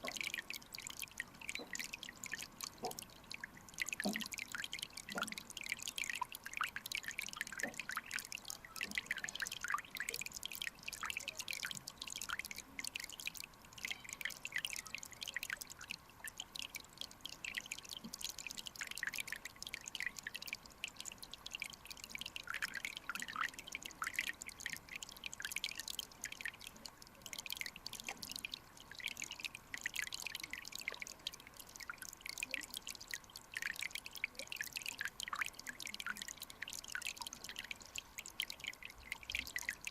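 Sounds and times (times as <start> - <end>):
stream bubbling over rocks: 0.0 - 39.9.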